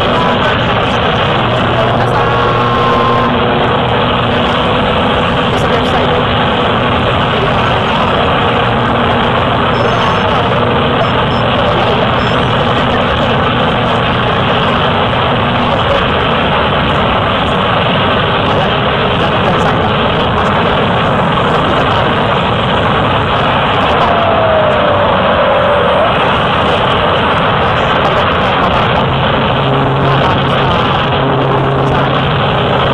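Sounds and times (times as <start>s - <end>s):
light plane engine and propeller: 0.0s - 32.9s
wind rushing: 0.0s - 32.9s.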